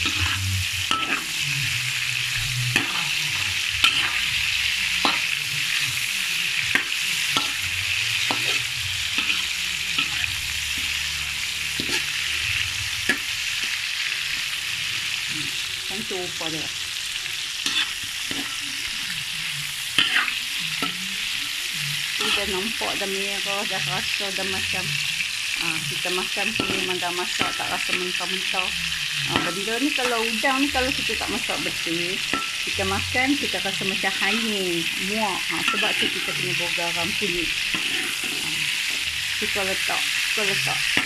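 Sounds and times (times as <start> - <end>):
metal spatula scraping a wok: 0.0 - 15.7, 17.5 - 41.0
prawns sizzling in hot oil: 0.0 - 41.0.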